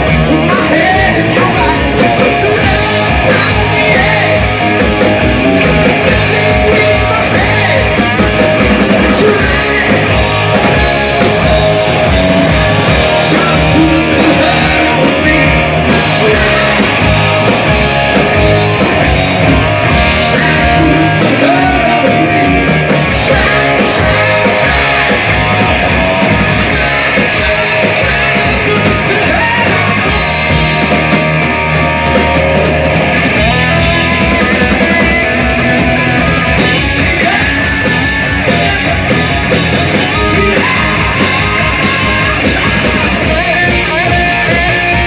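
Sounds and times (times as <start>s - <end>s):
lead vocals: 0.0s - 45.0s
rock band playing: 0.0s - 45.0s
drum crashes: 1.4s - 45.0s.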